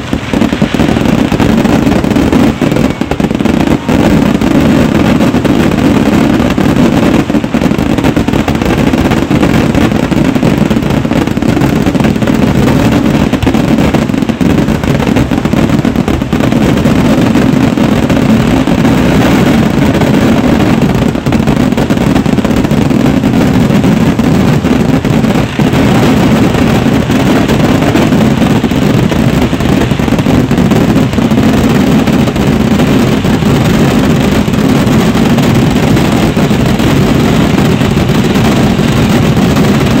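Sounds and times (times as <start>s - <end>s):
firecrackers exploding: 0.0s - 40.0s.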